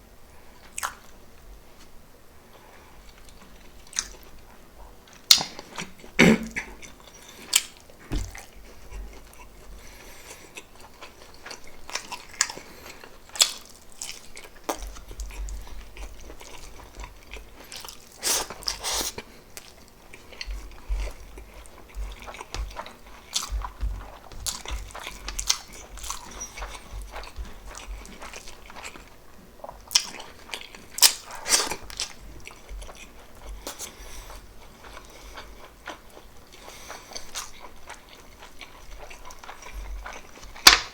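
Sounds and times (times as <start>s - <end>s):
chewing and mouth sounds: 3.1s - 40.9s.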